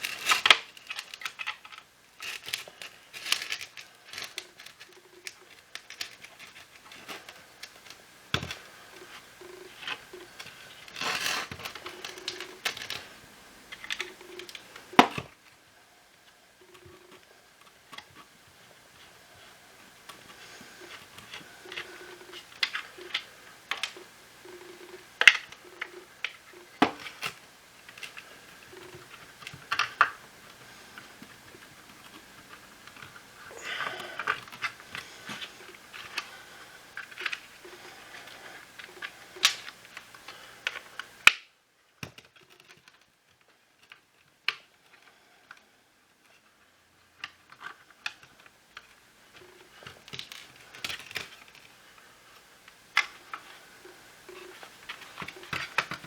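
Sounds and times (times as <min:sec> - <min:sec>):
plastic parts clicking and tapping: 0:00.0 - 0:13.1, 0:13.7 - 0:15.4, 0:19.9 - 0:36.3, 0:36.9 - 0:45.6, 0:47.1 - 0:56.0
faint steady hum: 0:00.0 - 0:56.0.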